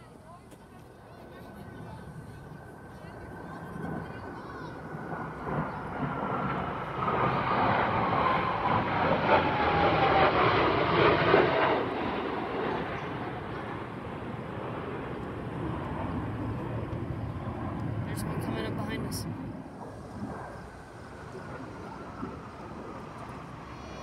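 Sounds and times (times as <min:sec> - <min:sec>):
jet flying past: 0:00.0 - 0:24.0.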